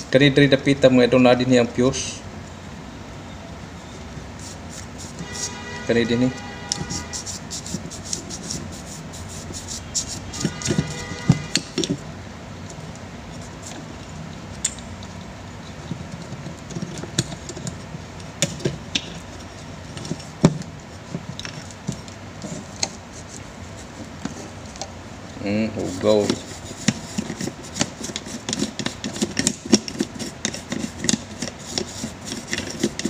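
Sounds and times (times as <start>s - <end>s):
steady background noise: 0.0s - 33.0s.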